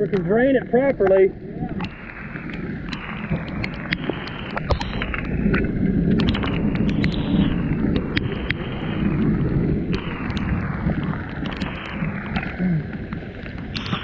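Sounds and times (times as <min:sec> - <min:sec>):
heavy rain and wind: 0:00.0 - 0:14.0
raindrops tapping camera housing: 0:00.0 - 0:14.0.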